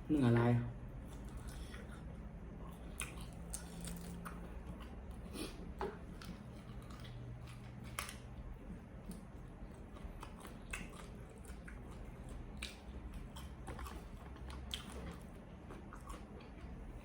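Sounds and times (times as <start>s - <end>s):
steady low hum: 0.0s - 17.0s
person chewing and biting: 1.0s - 17.0s.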